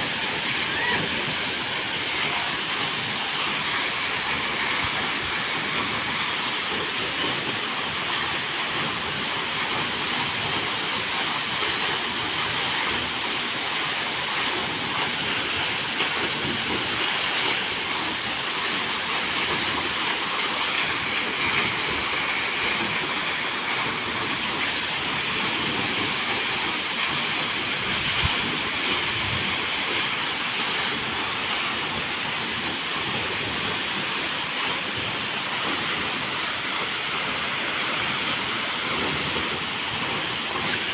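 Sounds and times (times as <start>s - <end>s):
waterfall: 0.0s - 40.9s.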